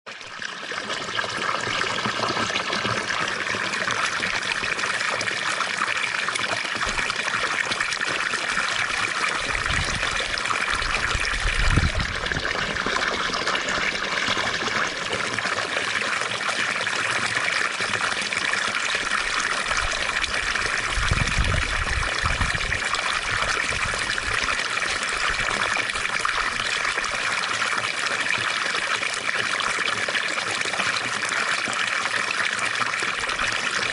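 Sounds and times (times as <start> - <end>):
fountain splashing and trickling: 0.1 - 33.9.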